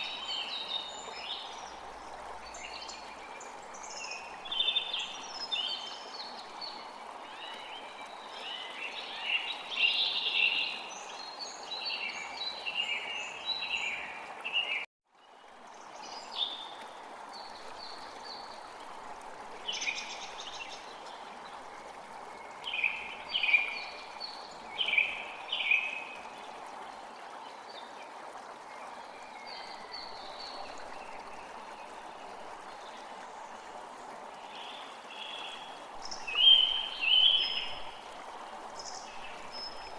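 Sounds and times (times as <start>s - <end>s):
stream rushing: 0.0s - 14.8s, 15.4s - 39.9s.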